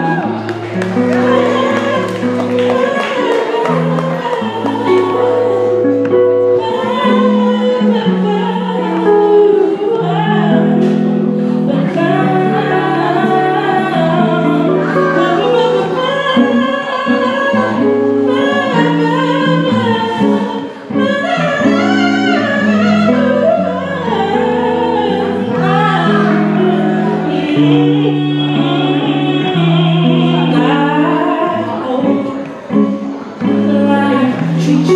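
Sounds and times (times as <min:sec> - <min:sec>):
instrumental accompaniment chords: 0:00.0 - 0:34.9
woman singing: 0:00.0 - 0:34.9.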